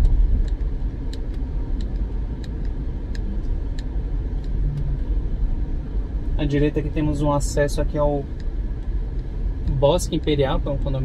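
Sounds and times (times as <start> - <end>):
turn signal ticking: 0.0 - 5.6, 6.2 - 11.0
road and engine rumble: 0.0 - 11.0.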